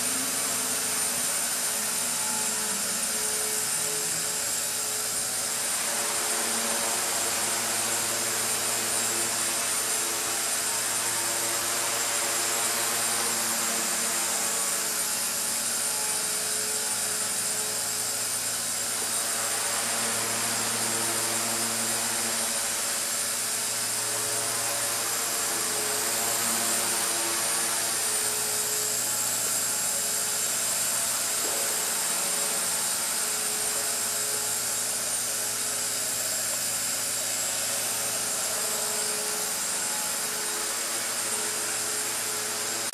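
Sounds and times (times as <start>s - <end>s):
rc helicopter motor whine and rotor hum: 0.0s - 42.9s.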